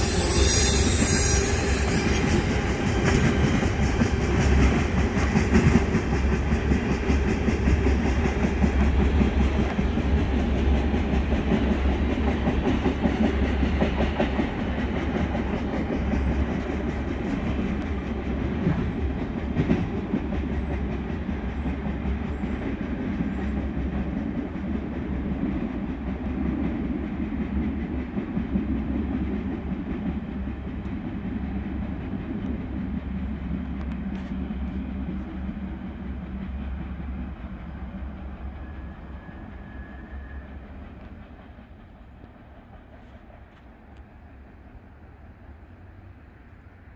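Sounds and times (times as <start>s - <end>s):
train wheel clatter: 0.0s - 45.0s
freight train rumbling: 0.0s - 46.9s.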